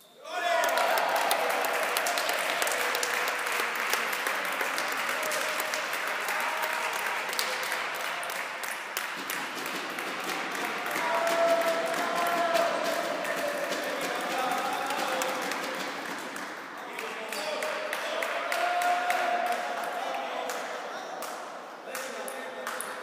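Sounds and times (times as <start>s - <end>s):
crowd clapping: 0.4s - 23.0s.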